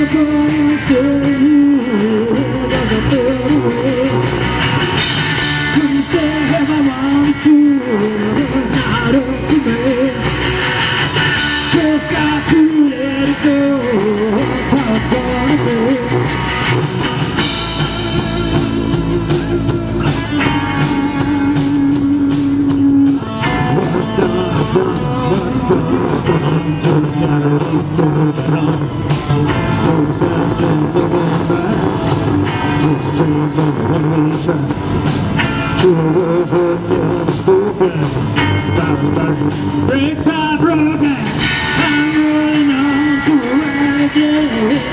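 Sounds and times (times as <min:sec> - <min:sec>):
bending lead guitar melody: 0:00.0 - 0:44.9
live rock band playing: 0:00.0 - 0:44.9.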